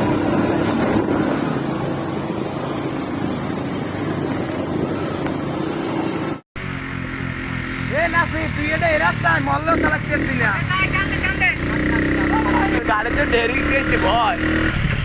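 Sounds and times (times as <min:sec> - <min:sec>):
noisy rush: 0:00.0 - 0:15.0
vehicle engine running: 0:00.0 - 0:15.0.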